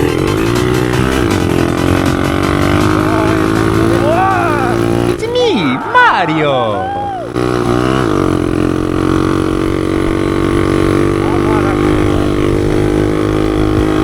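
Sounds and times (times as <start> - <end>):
pit bike engine droning: 0.0 - 14.0.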